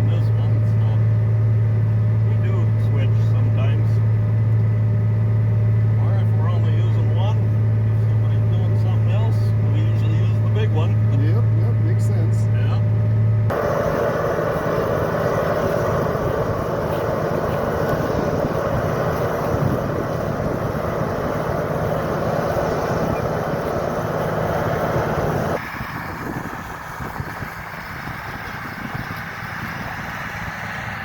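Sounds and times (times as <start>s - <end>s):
thin tractor engine: 0.0s - 31.0s
tractor diesel engine under load: 0.0s - 31.0s.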